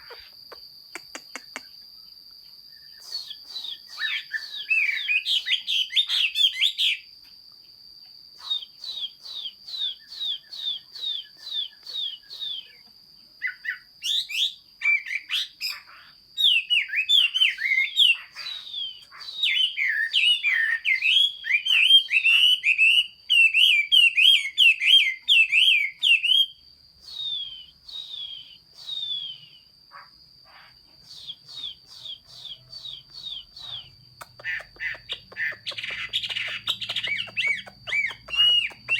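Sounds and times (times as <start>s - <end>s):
bird whistling song: 2.7s - 7.0s, 8.4s - 29.7s, 30.5s - 38.9s.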